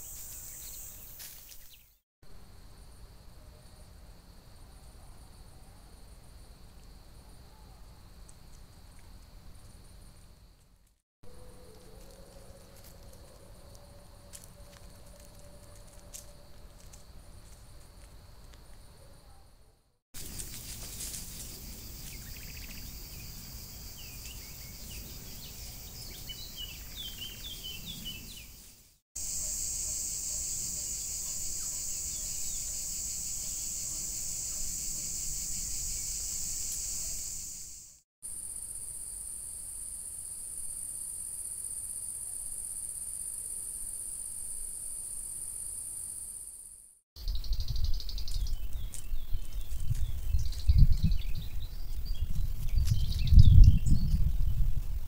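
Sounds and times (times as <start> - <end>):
crickets chirping: 0.0 - 54.8.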